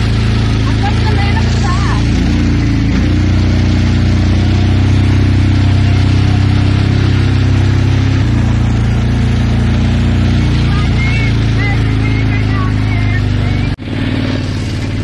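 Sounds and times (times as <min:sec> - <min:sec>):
small atv engine running: 0:00.0 - 0:15.0.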